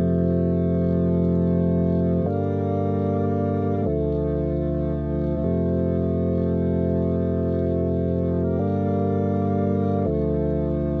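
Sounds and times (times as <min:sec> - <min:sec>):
sustained organ chords: 0:00.0 - 0:11.0.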